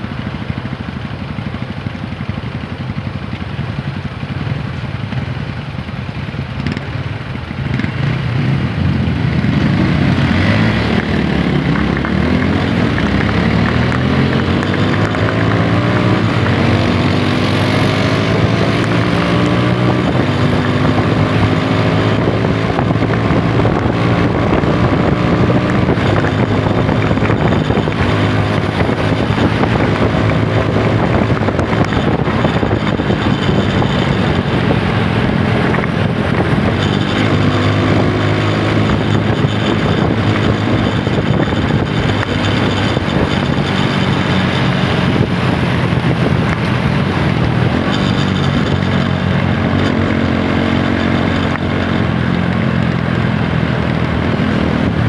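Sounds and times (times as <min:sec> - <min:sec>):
motorcycle engine accelerating: 0:00.0 - 0:55.0
wind buffeting microphone: 0:07.9 - 0:55.0.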